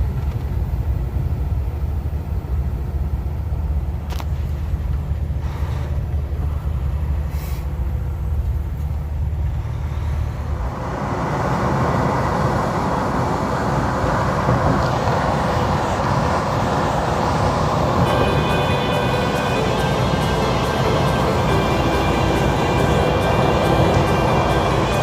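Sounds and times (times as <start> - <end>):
road and wind noise: 0.0 - 25.0
truck engine drone: 0.0 - 25.0.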